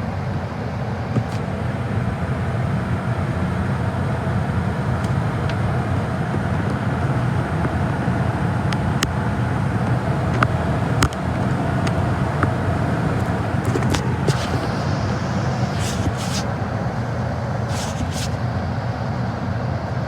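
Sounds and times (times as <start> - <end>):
gas furnace running: 1.1 - 18.7.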